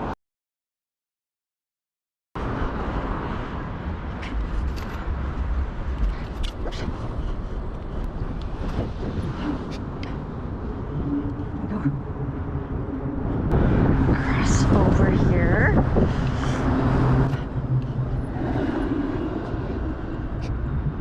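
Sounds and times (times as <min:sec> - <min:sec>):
low road and traffic rumble: 0:02.4 - 0:21.0
wind buffeting microphone: 0:02.4 - 0:21.0.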